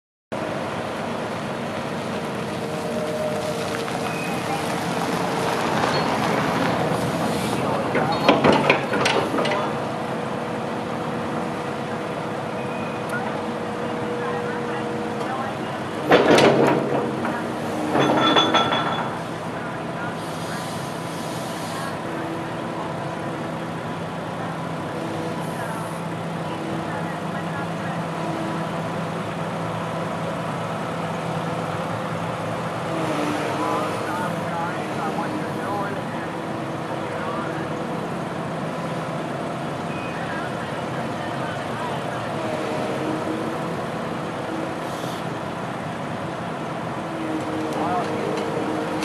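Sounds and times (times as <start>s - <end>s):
excavator diesel engine running: 0.4s - 49.0s.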